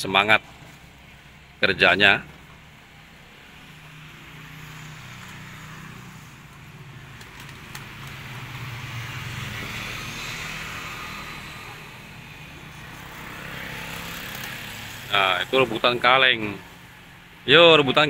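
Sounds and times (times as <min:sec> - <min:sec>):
motorbike passing close: 0:00.0 - 0:18.0
street traffic hum: 0:00.0 - 0:18.0.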